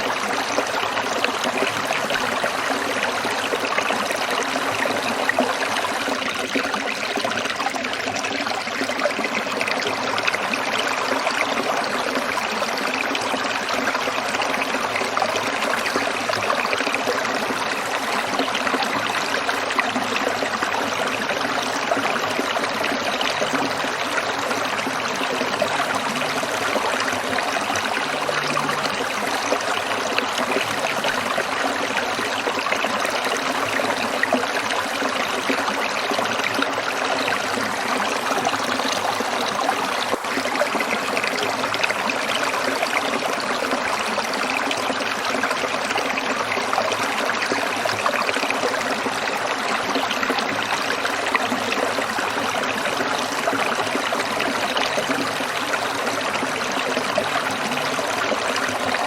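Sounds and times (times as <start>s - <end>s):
stream trickling over stones: 0.0s - 59.0s.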